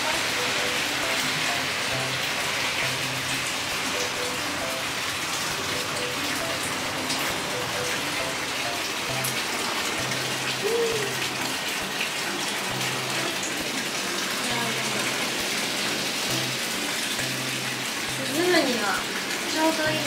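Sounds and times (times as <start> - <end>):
water pouring into tub: 0.0 - 20.0.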